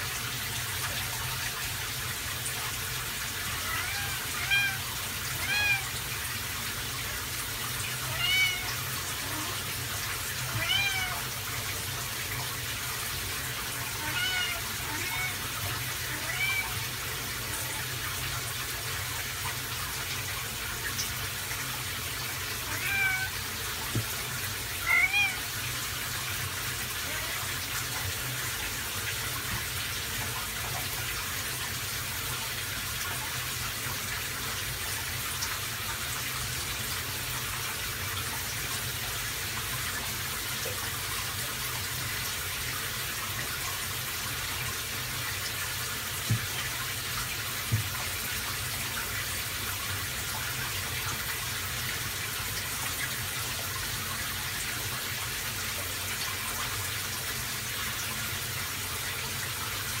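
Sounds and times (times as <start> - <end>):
water running: 0.0 - 60.0.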